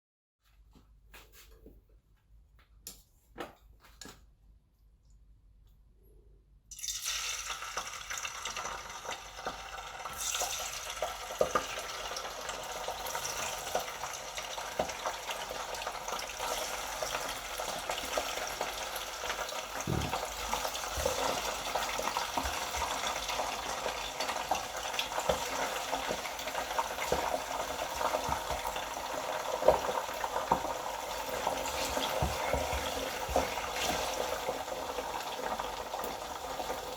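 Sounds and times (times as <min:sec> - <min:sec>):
deep-frying sizzle in oil: 0:06.7 - 0:36.9.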